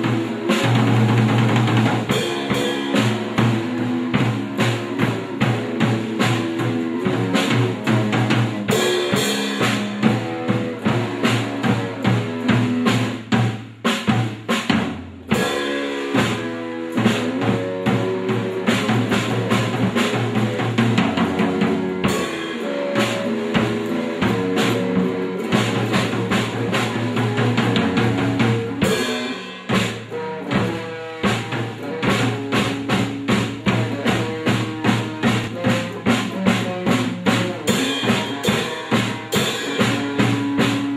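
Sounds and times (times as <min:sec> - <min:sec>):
drum kit beat: 0:00.0 - 0:40.9.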